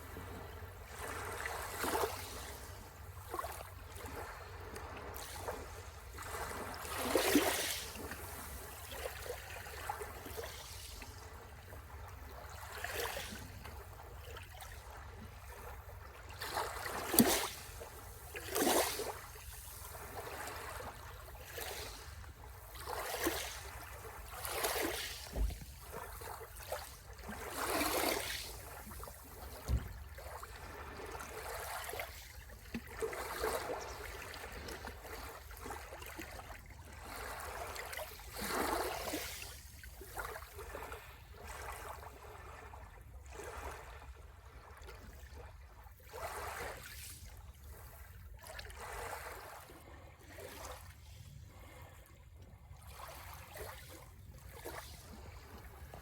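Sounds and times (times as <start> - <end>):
small sea waves splashing on shore: 0.0 - 52.0, 52.7 - 56.0.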